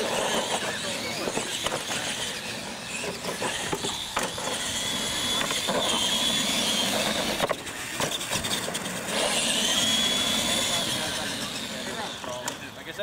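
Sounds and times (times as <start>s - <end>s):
high-pitched motor and gear whine: 0.0s - 13.0s
toy trucks driving on concrete: 0.0s - 13.0s.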